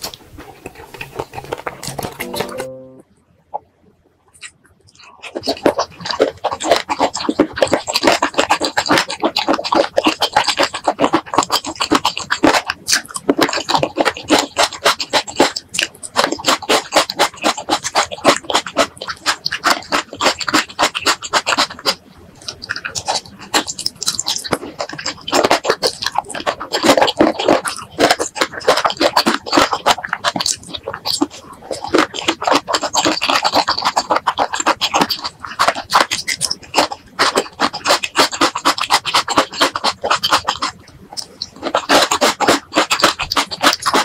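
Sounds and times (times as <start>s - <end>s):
close-miked chewing with mouth clicks: 0.0s - 3.6s, 4.2s - 44.0s.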